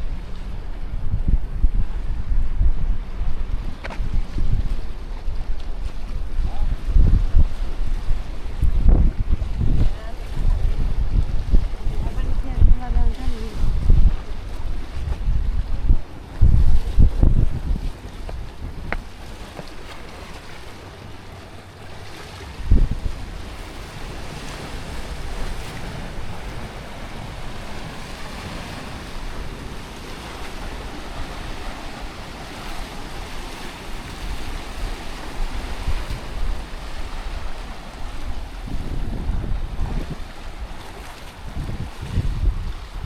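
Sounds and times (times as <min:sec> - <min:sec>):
sea waves washing in: 0:00.0 - 0:43.0
wind on microphone: 0:00.0 - 0:43.0.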